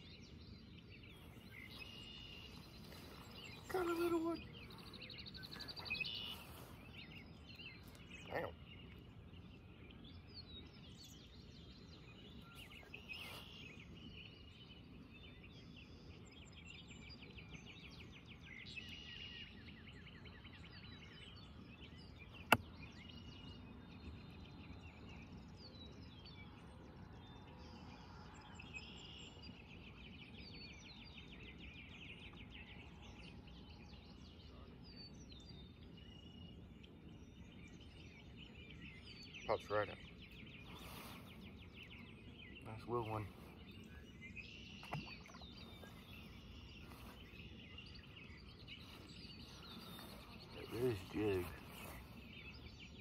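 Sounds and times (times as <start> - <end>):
birds chirping and trilling: 0.0 - 53.0
faint outdoor background noise: 0.0 - 53.0.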